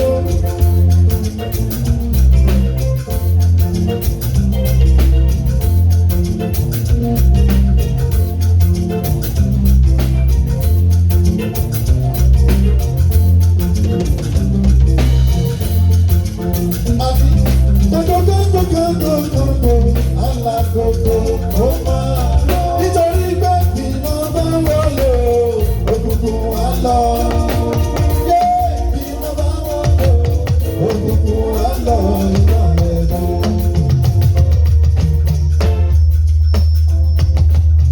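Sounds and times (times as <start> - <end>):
band playing: 0.0 - 37.9
bending lead melody: 0.0 - 37.9.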